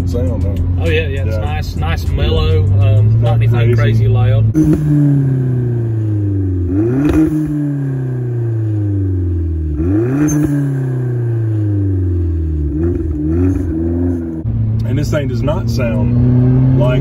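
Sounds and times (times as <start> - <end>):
car engine heard from inside: 0.0 - 17.0.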